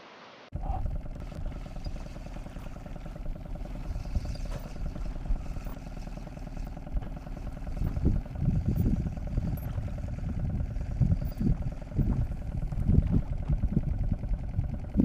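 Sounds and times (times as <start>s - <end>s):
outboard motor running: 0.5s - 15.0s.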